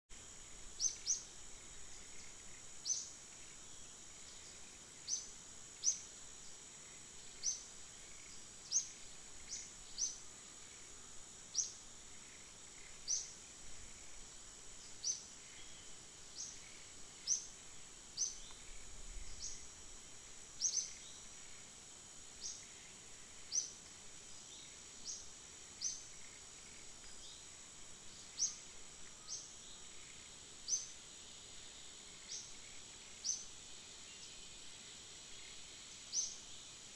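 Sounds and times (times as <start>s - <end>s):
high-pitched insect drone: 0.2s - 36.9s.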